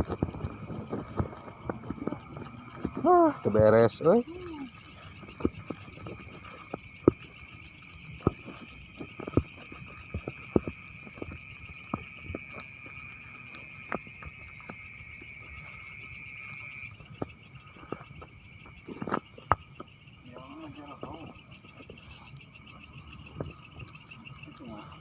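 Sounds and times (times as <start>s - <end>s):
crickets and insects trilling: 0.0s - 25.0s.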